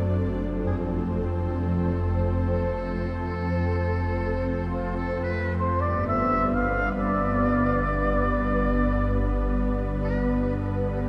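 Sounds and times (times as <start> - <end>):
ambient chill-out music: 0.0 - 11.0.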